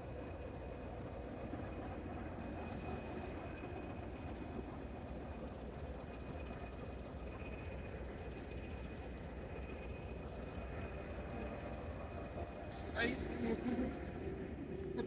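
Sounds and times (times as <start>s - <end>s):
train coach rumbling: 0.0s - 15.0s.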